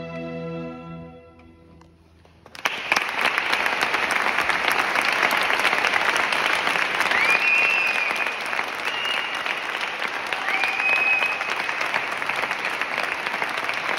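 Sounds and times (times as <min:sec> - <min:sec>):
audience applause: 0:02.2 - 0:13.9.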